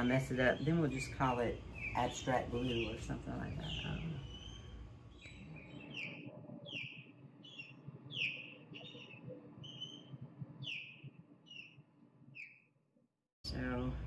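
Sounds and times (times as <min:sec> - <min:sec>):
bird chirping: 0:00.0 - 0:12.7.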